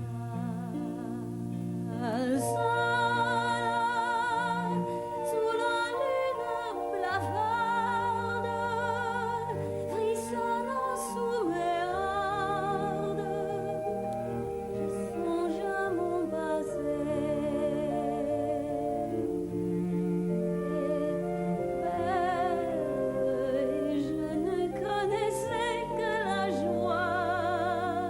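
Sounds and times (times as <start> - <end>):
person singing with vibrato: 0.0 - 28.0
orchestral accompaniment: 2.4 - 28.0.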